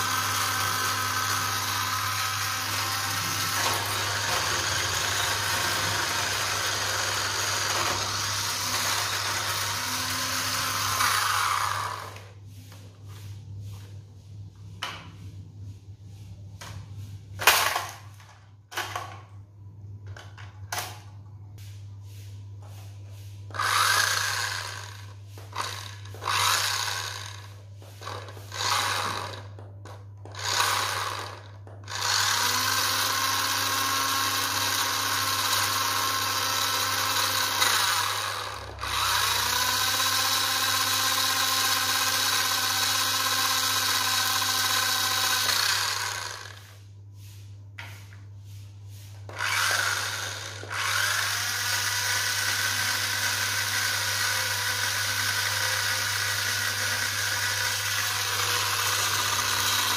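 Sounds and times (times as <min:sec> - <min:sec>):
toy car electric motors whirring: 0:00.0 - 0:12.4, 0:17.4 - 0:19.2, 0:23.5 - 0:46.9, 0:49.1 - 0:59.9.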